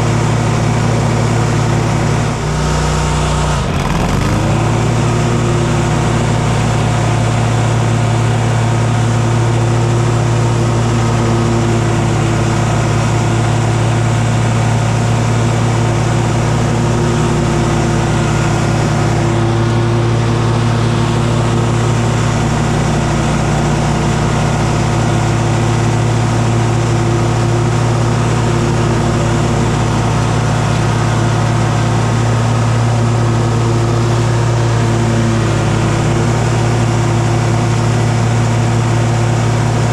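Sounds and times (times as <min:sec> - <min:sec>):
engine droning at high speed: 0:00.0 - 0:39.9.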